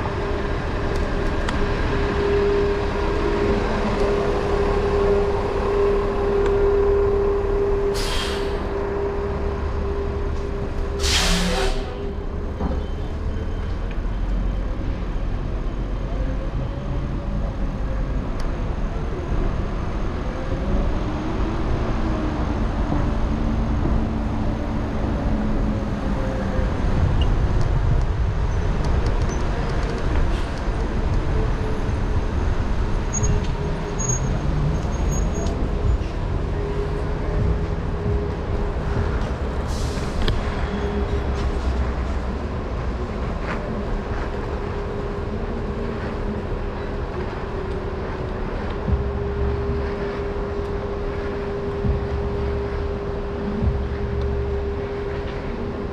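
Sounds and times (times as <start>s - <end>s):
wind and road noise rumble: 0.0s - 55.9s.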